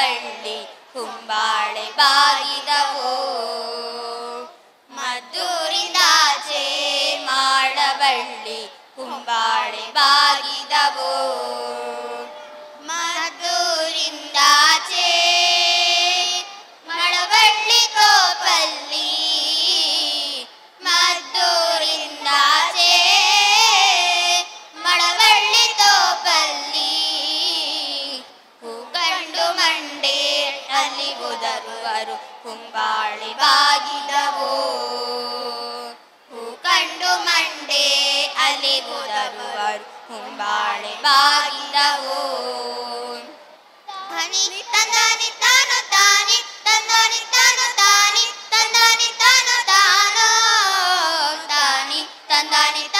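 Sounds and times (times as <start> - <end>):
children singing together: 0.0 - 52.9.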